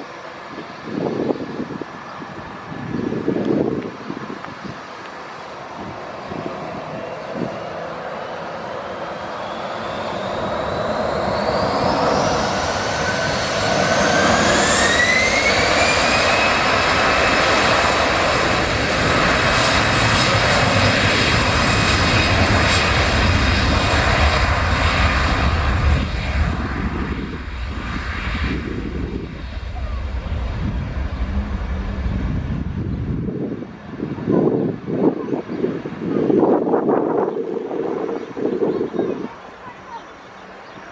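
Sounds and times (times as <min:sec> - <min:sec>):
jet engines roaring at takeoff: 0:00.0 - 0:40.9.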